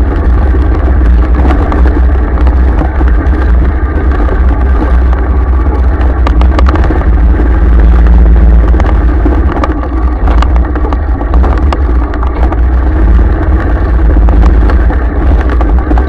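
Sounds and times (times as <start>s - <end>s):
low rumble of wind and engine: 0.0s - 16.0s
small clicks and rattles: 0.0s - 16.0s.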